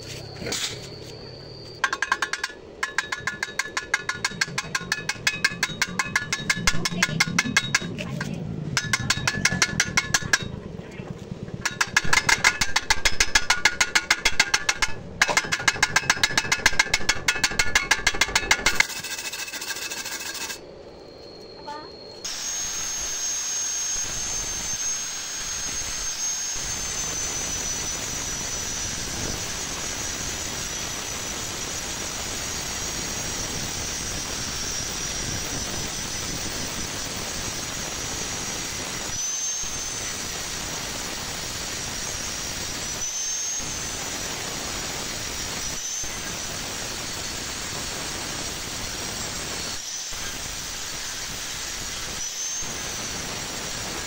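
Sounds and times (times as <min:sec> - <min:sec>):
angle grinder grinding metal: 0:01.8 - 0:10.5, 0:11.5 - 0:20.6, 0:22.2 - 0:54.0.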